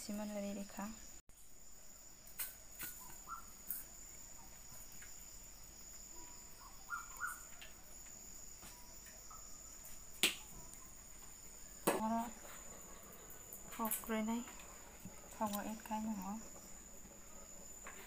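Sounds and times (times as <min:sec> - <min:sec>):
cricket trill: 0:00.0 - 0:18.0.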